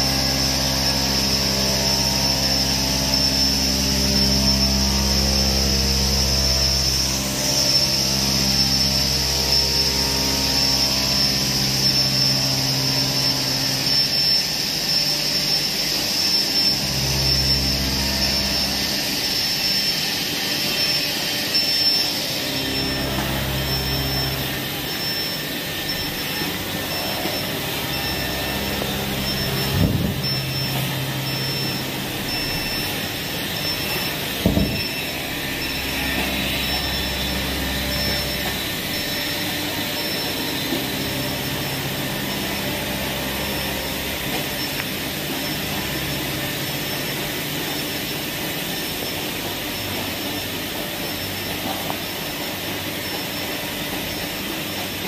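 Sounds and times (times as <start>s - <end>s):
faint high pulsing tone: 0.0s - 54.5s
low machine hums: 0.0s - 55.0s
machine hiss: 0.0s - 55.0s.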